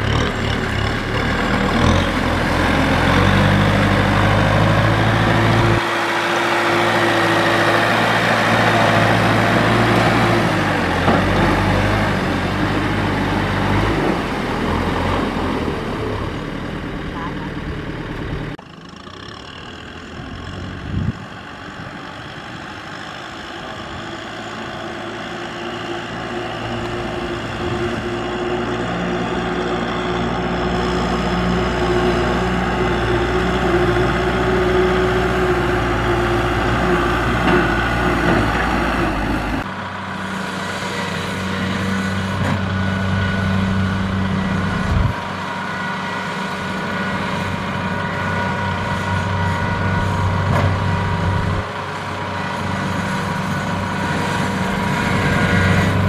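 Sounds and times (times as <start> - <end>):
combine harvester engine running: 0.0 - 56.0
tractor diesel engine running: 0.0 - 56.0.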